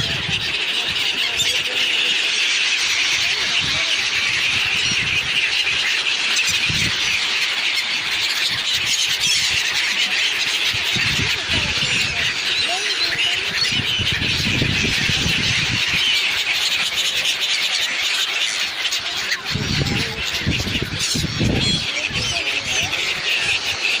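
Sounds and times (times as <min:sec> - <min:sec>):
many small birds chirping: 0:00.0 - 0:24.0.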